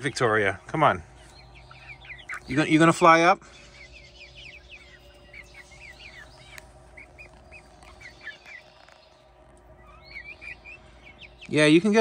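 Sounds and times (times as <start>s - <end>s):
chickens chirping softly: 0.0s - 12.0s.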